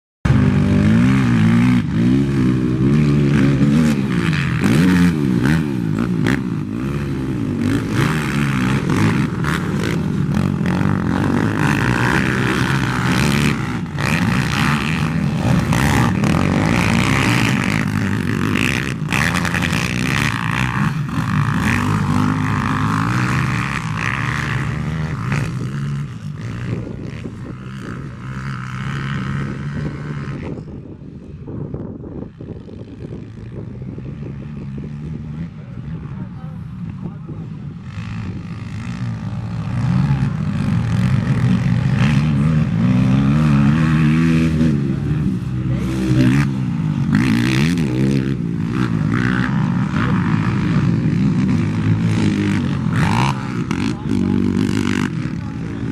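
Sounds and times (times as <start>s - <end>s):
motocross bike engines revving: 0.3s - 55.9s.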